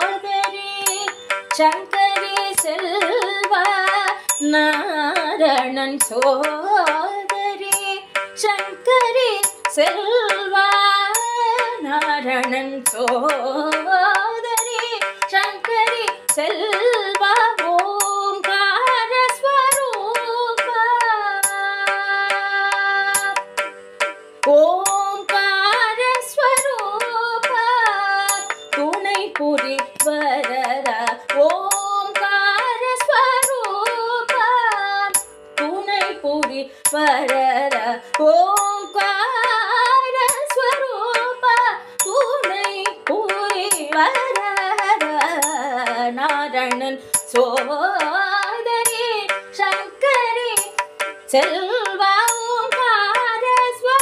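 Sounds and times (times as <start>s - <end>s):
ornamented sliding melody: 0.0s - 54.0s.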